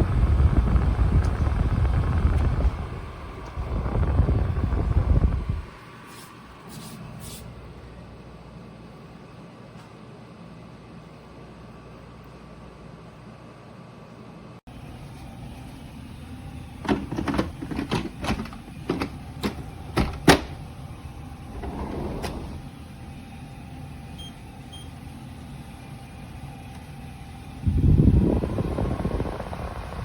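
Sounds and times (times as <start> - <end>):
dehumidifier fan humming: 0.0 - 30.0.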